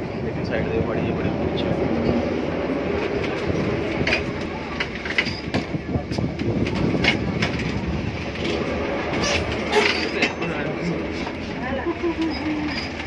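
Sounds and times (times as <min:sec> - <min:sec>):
tram rumbling and rattling: 0:00.0 - 0:13.0
wheels clicking on track: 0:01.6 - 0:13.0.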